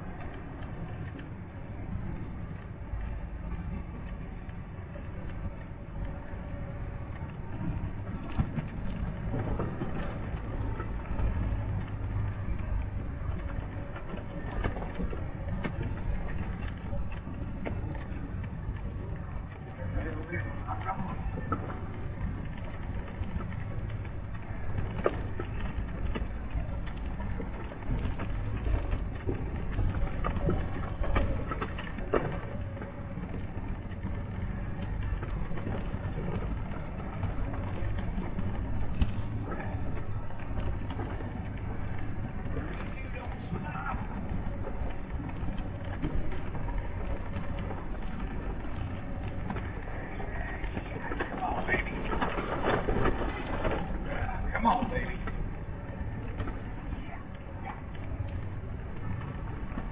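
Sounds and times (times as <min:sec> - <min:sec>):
road noise: 0:00.0 - 0:59.9
small clicks and rattles: 0:00.0 - 0:59.9
vehicle engine rumble: 0:00.0 - 0:59.9.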